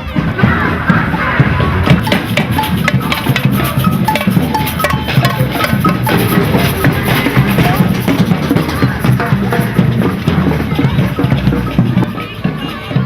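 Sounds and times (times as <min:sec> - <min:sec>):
drums playing busy rhythm: 0:00.0 - 0:13.0.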